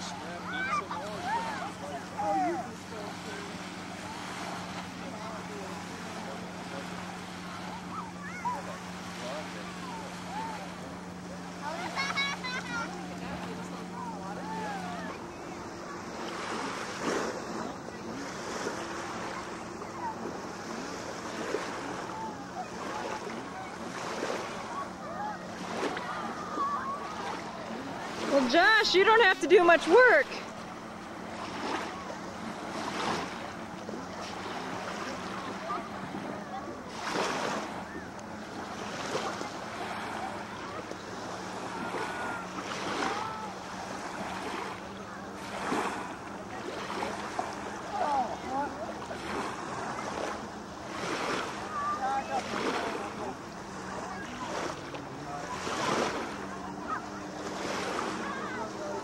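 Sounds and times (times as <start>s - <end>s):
small waves lapping: 0.0s - 59.0s.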